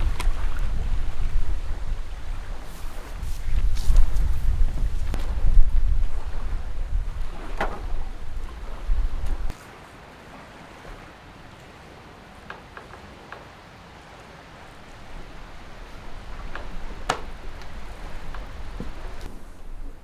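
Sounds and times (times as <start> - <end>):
wind hiss and rumble: 0.0 - 20.0.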